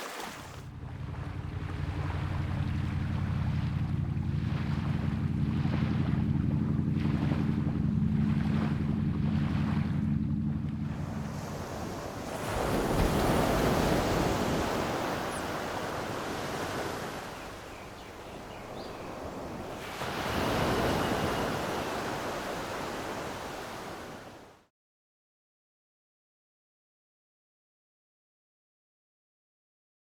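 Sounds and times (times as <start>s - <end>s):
sea waves washing in: 0.0s - 24.6s.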